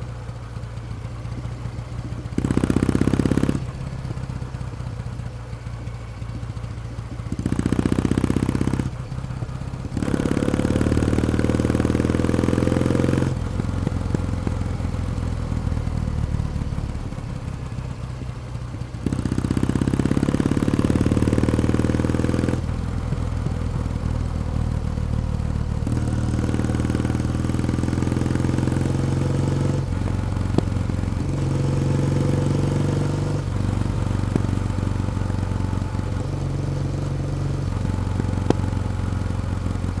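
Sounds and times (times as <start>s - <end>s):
motorcycle engine and exhaust: 0.0s - 40.0s.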